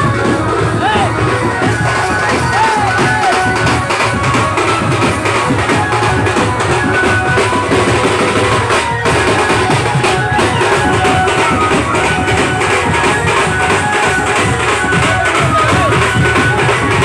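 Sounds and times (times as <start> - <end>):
marching band drums beating: 0.0 - 17.0.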